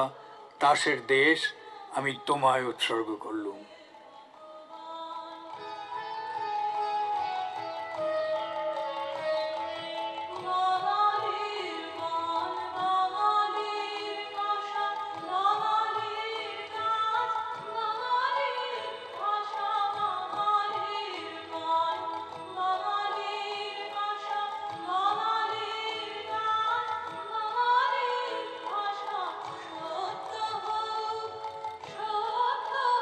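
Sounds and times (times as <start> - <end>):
woman singing classical melody: 3.6 - 33.0.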